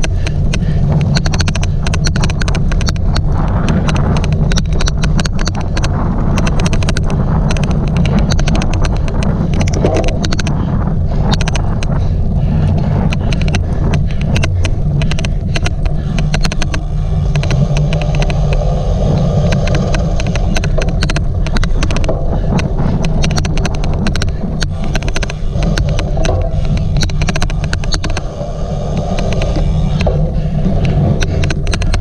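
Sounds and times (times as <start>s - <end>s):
bike rumbling over rough ground: 0.0s - 32.0s
sharp irregular clicking: 0.0s - 32.0s
wind buffeting microphone: 0.0s - 32.0s.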